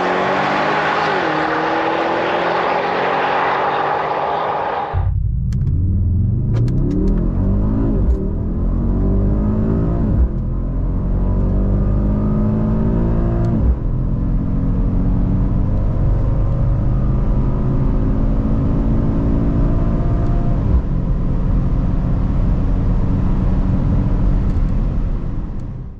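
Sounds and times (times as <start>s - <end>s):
car engine accelerating: 0.0s - 25.9s.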